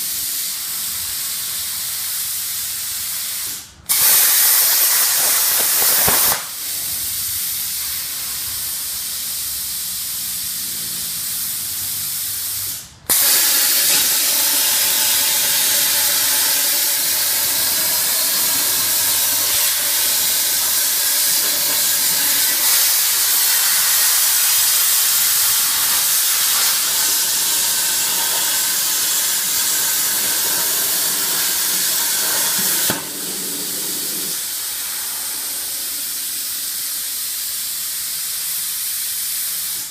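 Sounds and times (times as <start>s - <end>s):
plasma cutter torch hissing: 0.0s - 39.9s.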